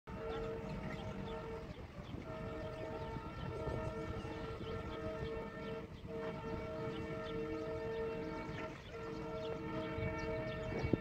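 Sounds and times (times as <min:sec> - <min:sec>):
train horn: 0:00.1 - 0:11.0
train rumble and wheel clatter: 0:00.1 - 0:11.0.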